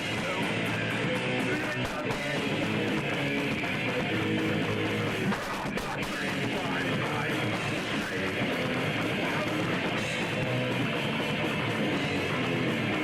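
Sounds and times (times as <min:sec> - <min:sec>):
guitar rock music: 0:00.0 - 0:13.0.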